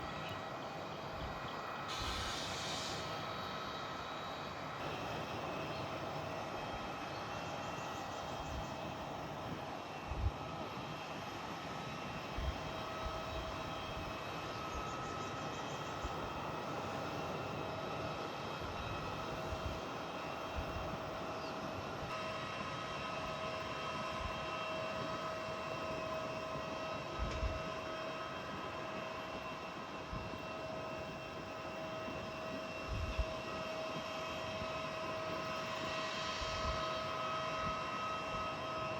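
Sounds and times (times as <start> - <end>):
airliner engines whining: 0.0 - 38.9.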